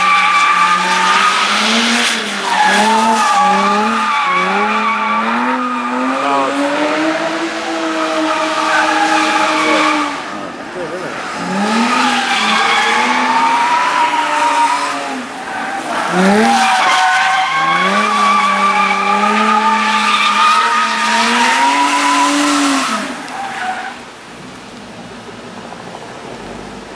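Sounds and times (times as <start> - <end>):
tyres squealing: 0.0 - 24.0
car engine at high revs: 0.0 - 26.9.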